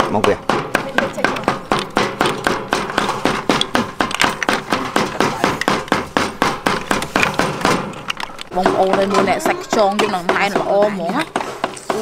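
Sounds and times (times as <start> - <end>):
snail shells clattering in steel basin: 0.5 - 12.0.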